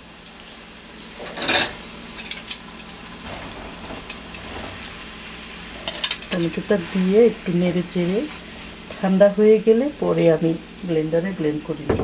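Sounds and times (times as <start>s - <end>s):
onion sizzling in a pan: 0.0s - 12.0s.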